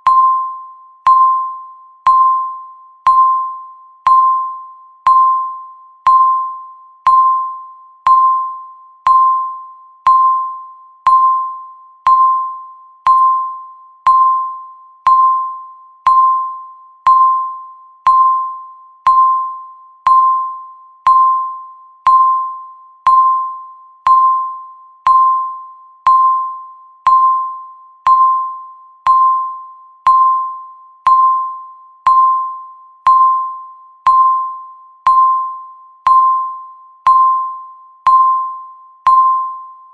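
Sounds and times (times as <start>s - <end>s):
countdown timer beep: 0.0s - 39.9s.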